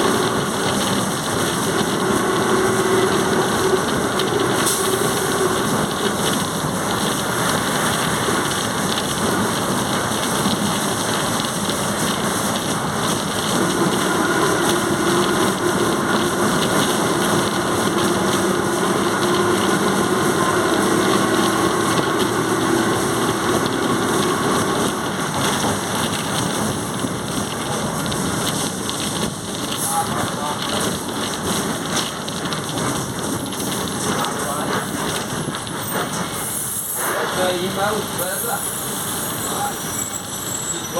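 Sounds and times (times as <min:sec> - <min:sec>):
bus engine and road noise: 0:00.0 - 0:40.9.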